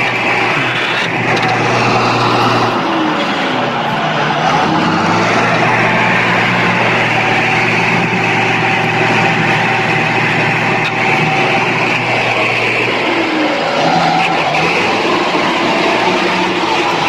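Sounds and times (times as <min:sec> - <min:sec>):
engine running with low hum: 0:00.0 - 0:17.0.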